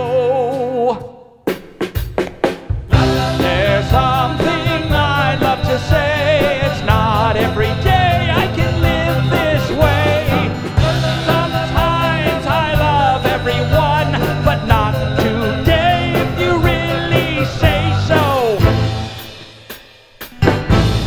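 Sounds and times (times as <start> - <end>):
drum kit beat: 0.0 - 21.0
keyboards: 1.9 - 21.0.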